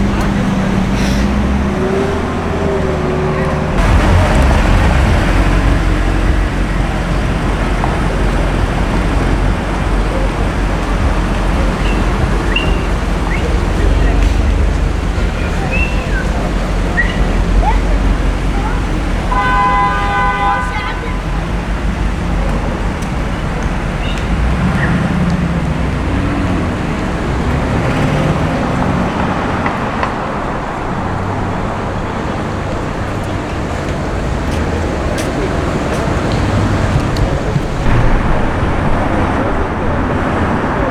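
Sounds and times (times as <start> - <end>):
cars passing: 0.0 - 40.9
city street traffic: 0.0 - 40.9
engine hum: 0.0 - 40.9.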